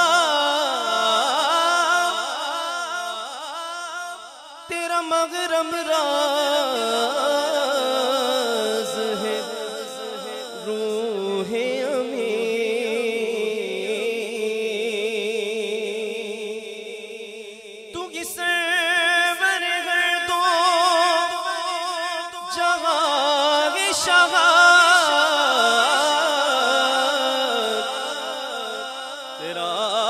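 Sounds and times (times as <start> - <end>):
man singing into microphone: 0.0 - 30.0.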